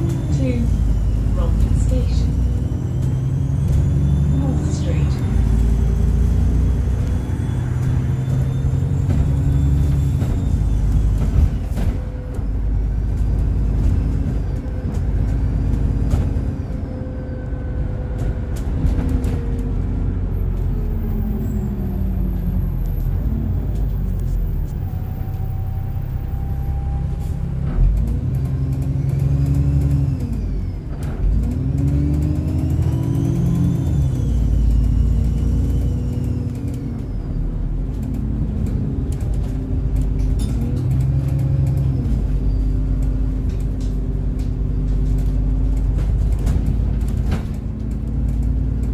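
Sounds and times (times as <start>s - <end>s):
bus diesel engine: 0.0s - 48.9s.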